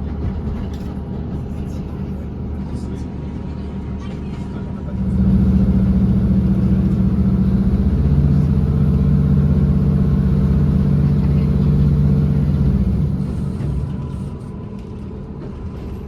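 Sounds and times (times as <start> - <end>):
train diesel engine droning: 0.0 - 16.0.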